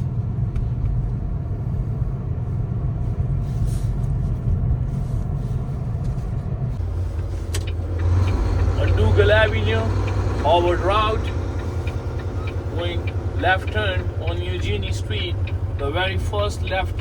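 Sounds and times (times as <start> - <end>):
diesel truck engine in cab: 0.0 - 17.0.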